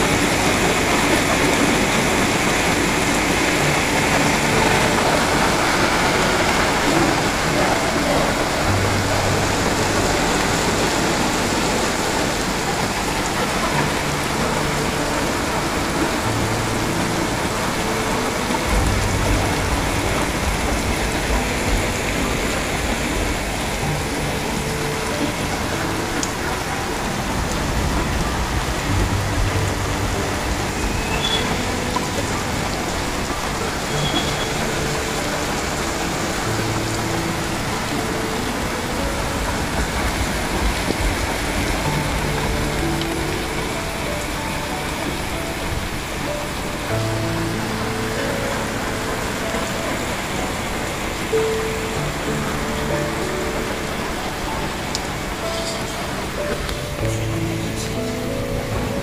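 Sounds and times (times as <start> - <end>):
heavy rain splashing on pavement: 0.0 - 59.0.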